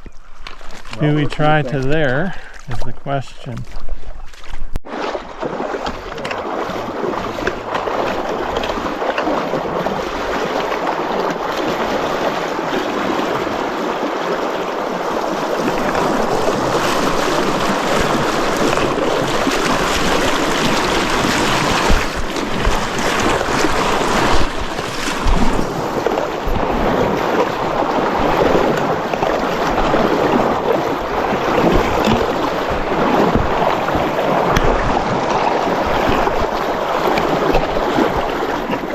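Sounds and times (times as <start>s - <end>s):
mountain creek rushing: 0.0s - 3.8s, 4.9s - 38.9s.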